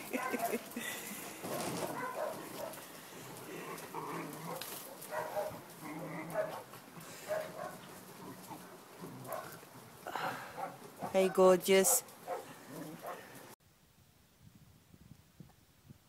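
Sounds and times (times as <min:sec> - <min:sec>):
dogs barking and yipping: 0:00.0 - 0:13.6.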